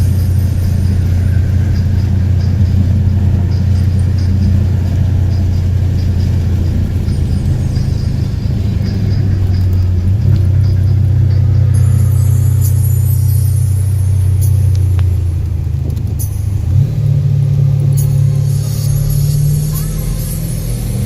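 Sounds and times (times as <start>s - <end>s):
road and wind noise: 0.0s - 21.0s
vehicle engine droning: 0.0s - 21.0s.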